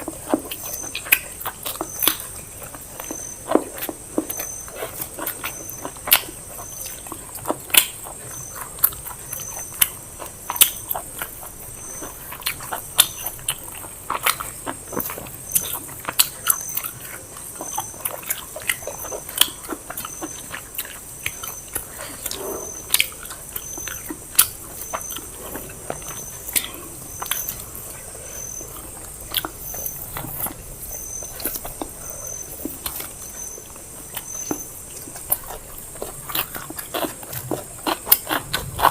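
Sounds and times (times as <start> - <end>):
people chewing and lip smacking: 0.0 - 38.9.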